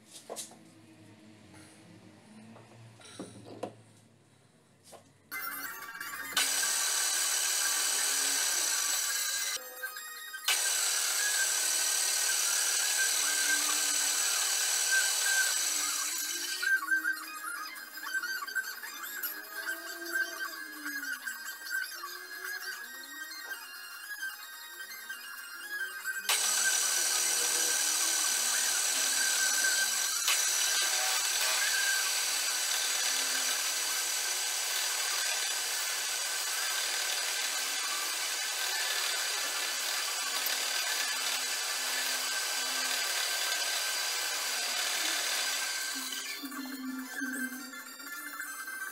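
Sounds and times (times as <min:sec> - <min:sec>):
drill spindle whining: 0:06.2 - 0:09.7, 0:10.3 - 0:47.9.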